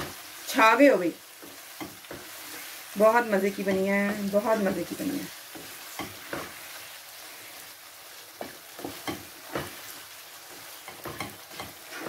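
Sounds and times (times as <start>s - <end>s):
potatoes sizzling in a pan: 0.0s - 12.0s
wooden spoon scraping a pan: 0.0s - 12.0s.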